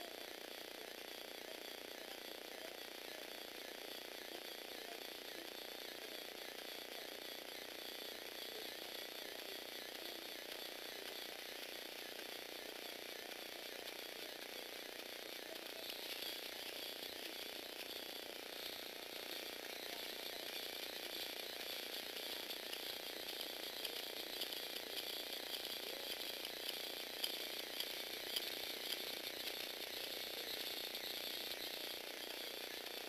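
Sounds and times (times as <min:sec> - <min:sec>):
electric motor whirring through gears: 0:05.4 - 0:33.0.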